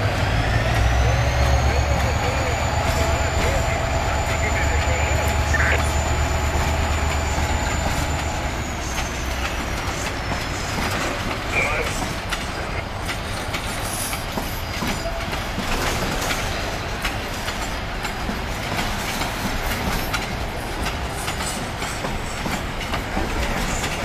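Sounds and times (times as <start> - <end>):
train wheels rumbling on rails: 0.0 - 24.0
wheels clacking over track: 0.0 - 24.0.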